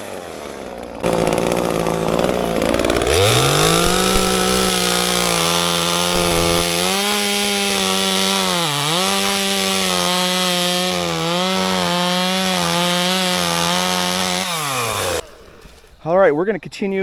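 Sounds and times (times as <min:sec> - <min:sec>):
chainsaw cutting wood: 0:00.0 - 0:15.9.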